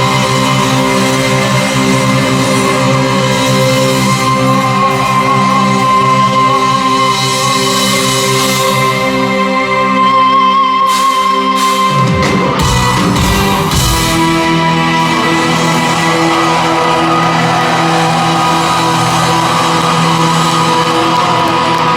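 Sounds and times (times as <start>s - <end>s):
rock band playing chords: 0.0s - 21.9s.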